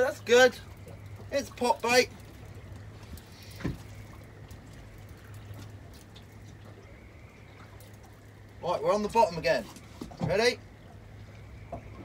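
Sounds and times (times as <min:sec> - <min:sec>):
steady low hum: 0:00.0 - 0:12.0
water lapping against boat hull: 0:00.0 - 0:12.0.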